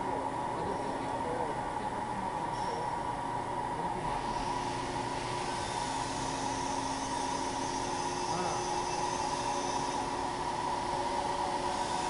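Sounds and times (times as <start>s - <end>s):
lathe whirring and humming: 0.0s - 12.0s.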